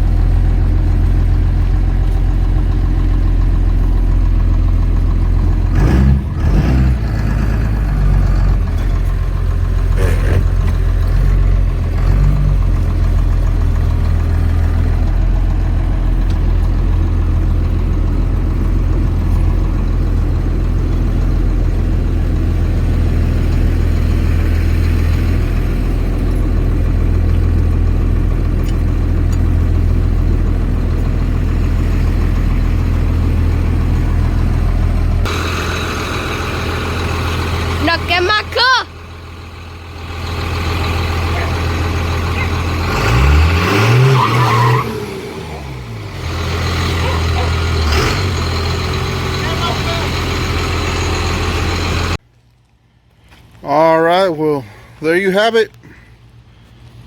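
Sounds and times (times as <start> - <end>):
engine knocks: 0.0 - 44.0, 45.6 - 52.2
diesel engine idling: 0.0 - 52.2, 52.8 - 57.0.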